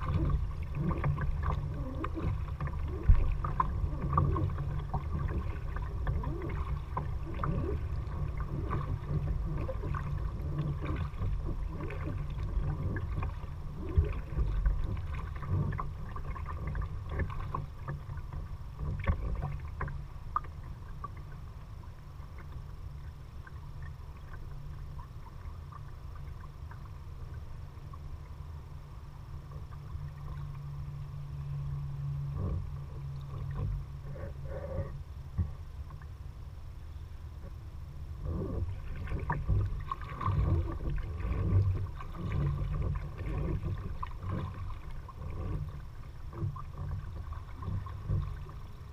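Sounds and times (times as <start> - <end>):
low rumble on microphone: 0.0 - 48.9
paddle splashing and dripping water: 0.0 - 48.9.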